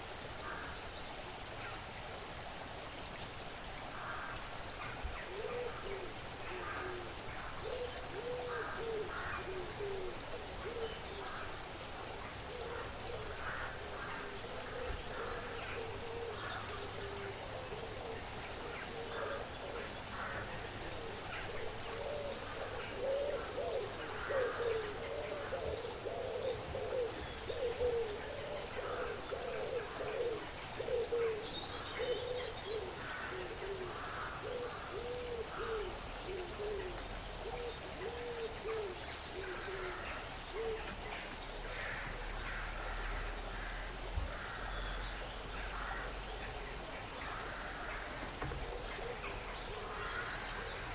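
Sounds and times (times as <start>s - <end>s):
low bird calls: 4.0s - 50.9s.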